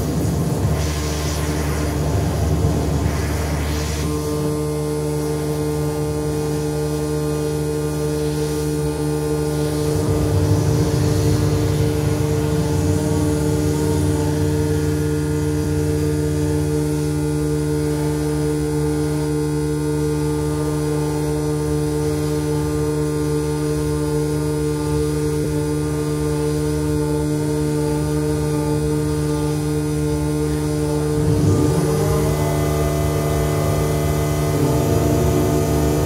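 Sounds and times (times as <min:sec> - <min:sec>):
synthesizer drone: 0:00.0 - 0:36.0.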